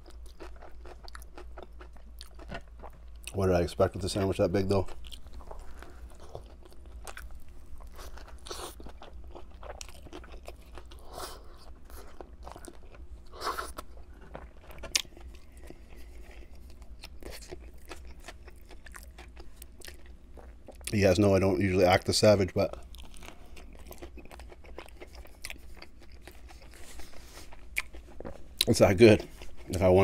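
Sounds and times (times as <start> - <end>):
biting and chewing crispy food: 0.0 - 21.2, 22.6 - 30.0.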